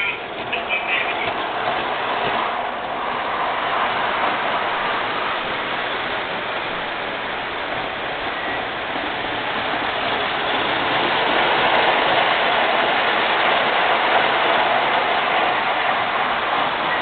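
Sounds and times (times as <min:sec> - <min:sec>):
model train rolling on track: 0:00.0 - 0:17.0.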